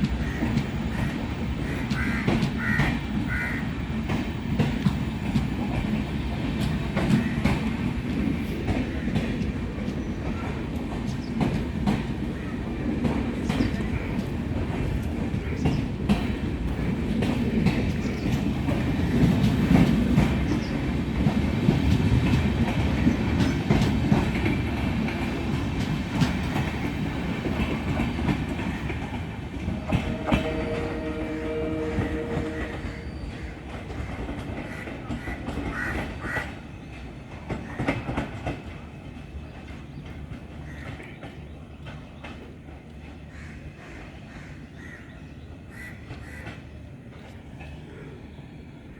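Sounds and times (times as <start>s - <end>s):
train wheels clicking over rail joints: 0.0s - 47.9s.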